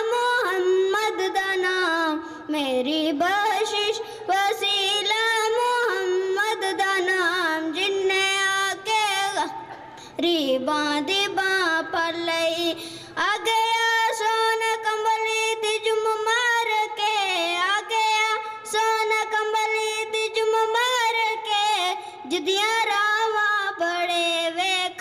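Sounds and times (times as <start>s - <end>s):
boy singing unaccompanied: 0.0s - 25.0s.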